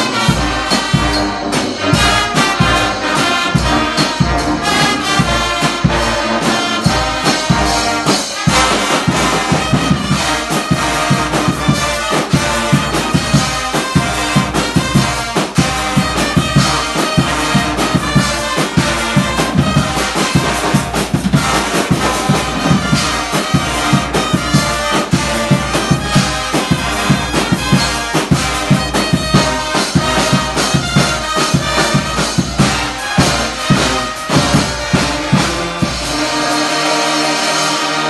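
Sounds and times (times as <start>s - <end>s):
brass band playing: 0.0s - 38.0s
driving drum beat: 0.0s - 38.0s.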